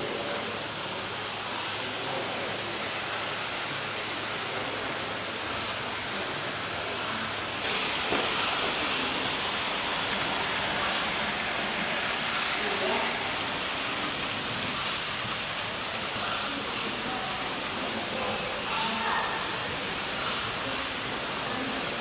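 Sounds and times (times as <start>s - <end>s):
hissing hall background noise: 0.0s - 22.0s.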